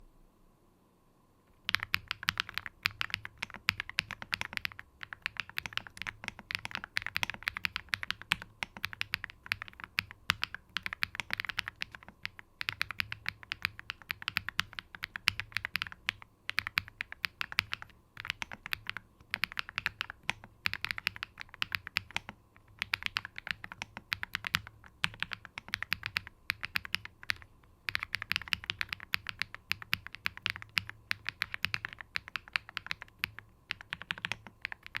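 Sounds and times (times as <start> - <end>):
mechanical keyboard typing: 1.6 - 35.0.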